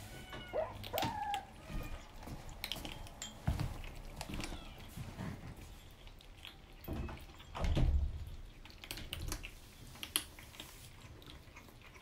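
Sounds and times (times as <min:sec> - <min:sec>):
kittens crunching dry kibble: 0:00.0 - 0:12.0.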